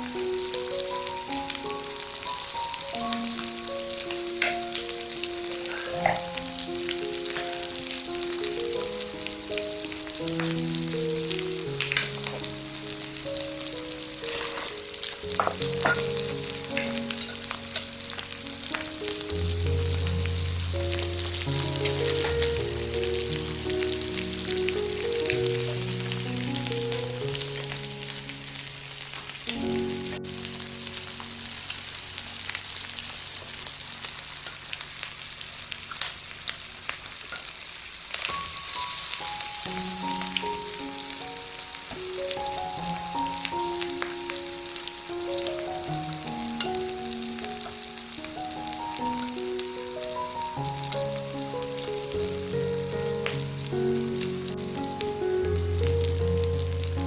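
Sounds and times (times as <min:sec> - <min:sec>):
slow background music: 0:00.0 - 0:34.8, 0:38.2 - 0:57.0
food sizzling on grill plate: 0:00.0 - 0:57.0.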